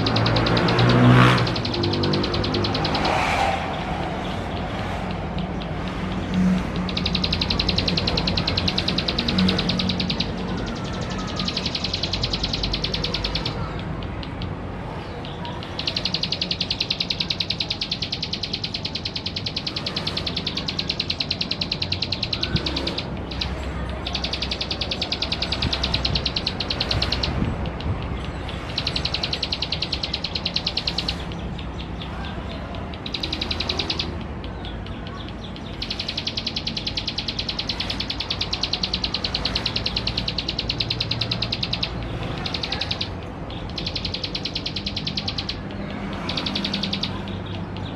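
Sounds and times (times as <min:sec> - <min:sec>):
bird singing fast trill: 0:00.0 - 0:47.9.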